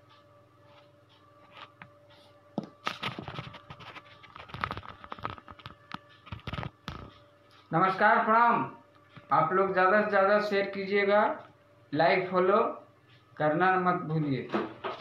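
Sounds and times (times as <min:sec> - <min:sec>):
faint steady hum: 0:00.0 - 0:14.5.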